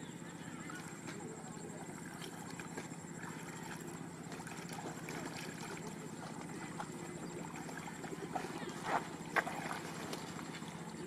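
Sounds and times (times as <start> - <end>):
steady low hum: 0.0 - 11.0
water sloshing and splashing: 0.0 - 11.0.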